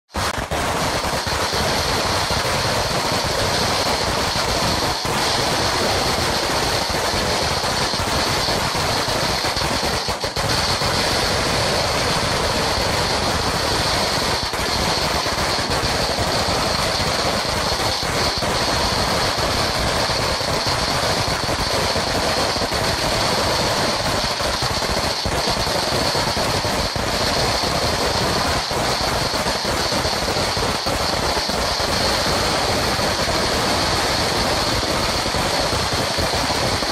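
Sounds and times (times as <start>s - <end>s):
firecracker belt crackling: 0.1s - 36.9s.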